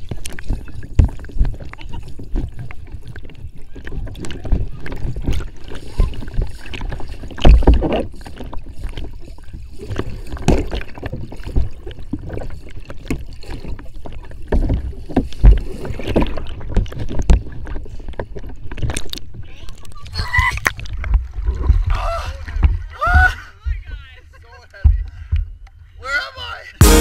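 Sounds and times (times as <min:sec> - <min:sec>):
underwater bubbling: 0:00.0 - 0:23.0
muffled water churning and splashing: 0:00.0 - 0:25.9.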